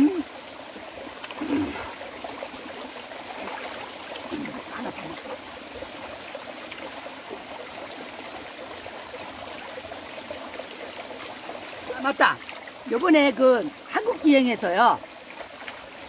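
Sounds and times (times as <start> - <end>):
stream running over rocks: 0.0 - 16.0.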